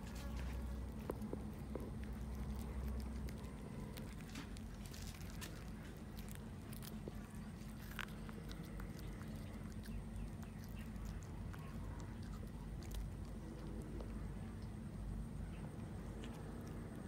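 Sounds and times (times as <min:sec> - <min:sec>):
cat chewing bones: 0:00.0 - 0:17.0
low background hum: 0:00.0 - 0:17.0.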